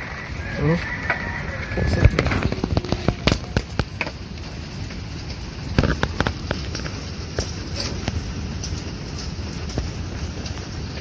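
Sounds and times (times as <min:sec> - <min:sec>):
rain falling: 0:00.0 - 0:11.0
raindrops striking a surface: 0:00.0 - 0:11.0.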